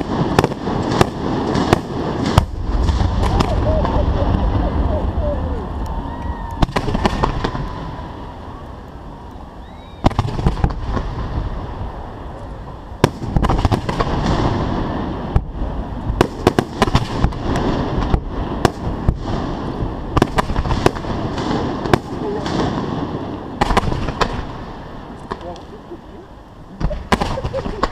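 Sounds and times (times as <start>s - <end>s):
fireworks bangs: 0.0s - 25.9s, 26.6s - 27.9s
fireworks rushing and crackling: 0.0s - 27.9s.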